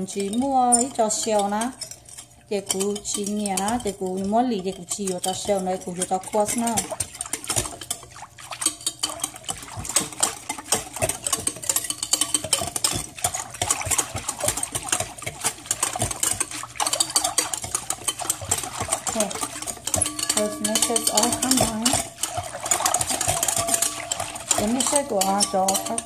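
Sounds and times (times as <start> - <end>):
scraping paste through a strainer: 0.0 - 26.0.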